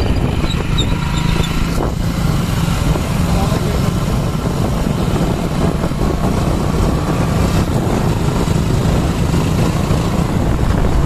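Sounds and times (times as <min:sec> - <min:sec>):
motorcycle running: 0:00.0 - 0:11.0
wind rushing over microphone: 0:00.0 - 0:11.0.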